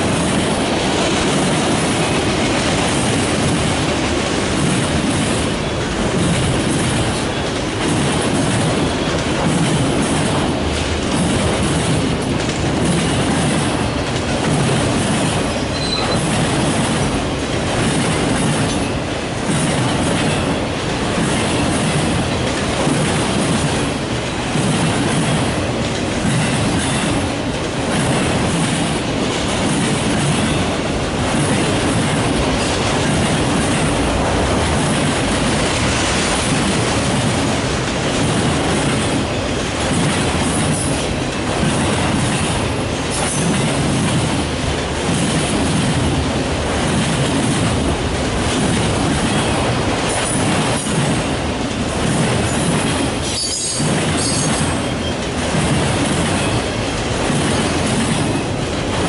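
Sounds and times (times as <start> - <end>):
train wheels rolling over rails: 0.0 - 59.0.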